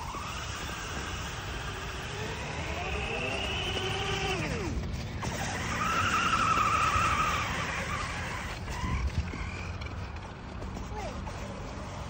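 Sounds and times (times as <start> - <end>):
electric toy car motor whining: 0.0 - 12.0.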